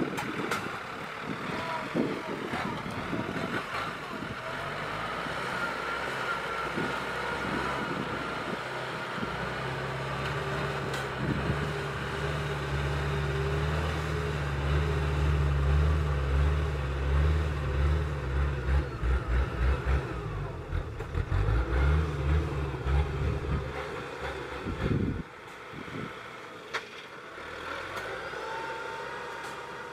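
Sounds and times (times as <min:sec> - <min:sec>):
harvester engine running under load: 0:00.0 - 0:29.9.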